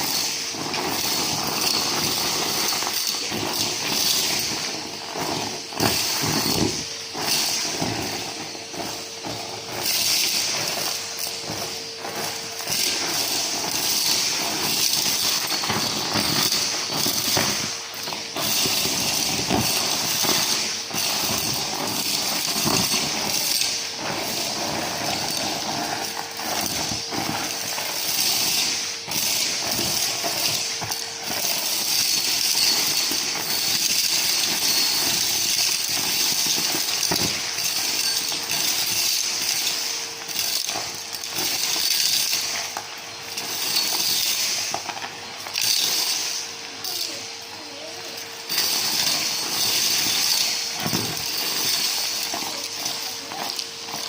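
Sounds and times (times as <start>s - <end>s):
debris rattling up a hose: 0.0s - 54.0s
vacuum cleaner running: 0.0s - 54.0s.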